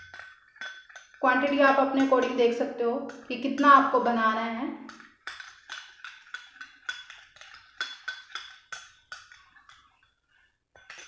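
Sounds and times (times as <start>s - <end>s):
metal spoon clinking on glass bowl: 0.0s - 4.2s, 4.9s - 11.0s.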